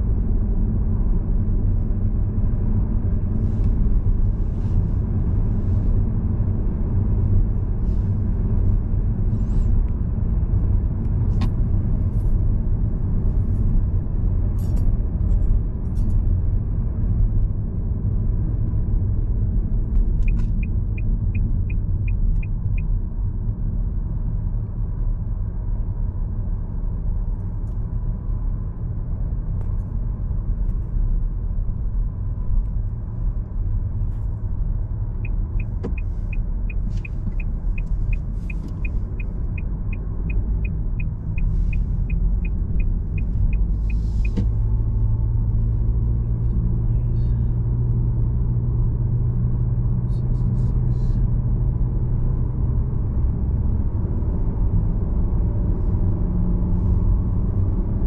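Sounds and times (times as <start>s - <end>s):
car tyres and engine rumble: 0.0s - 58.0s.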